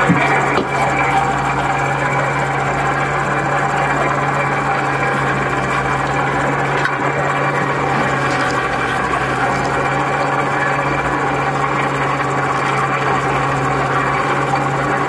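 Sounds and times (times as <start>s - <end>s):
boat engine and line hauler drone: 0.0s - 15.0s.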